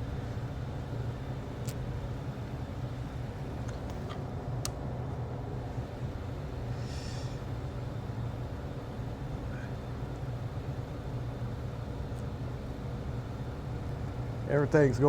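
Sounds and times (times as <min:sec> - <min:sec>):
heater low hum: 0:00.0 - 0:15.0.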